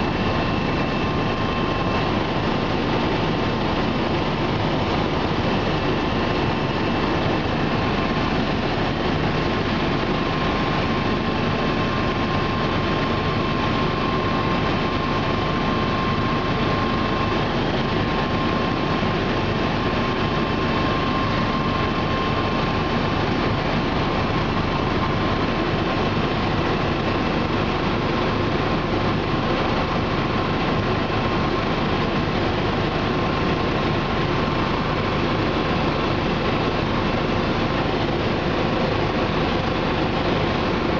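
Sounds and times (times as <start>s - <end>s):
helicopter rotor and turbine drone: 0.0s - 40.9s
thin steady whine: 0.0s - 40.9s.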